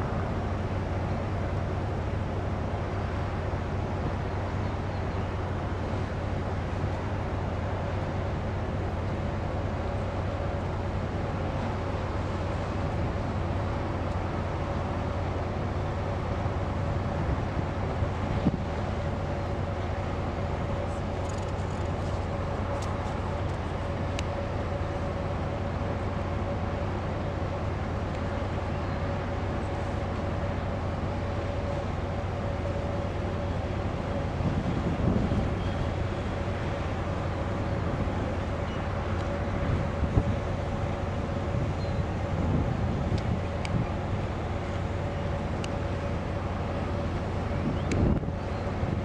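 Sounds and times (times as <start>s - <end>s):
low machinery drone: 0.0s - 49.0s.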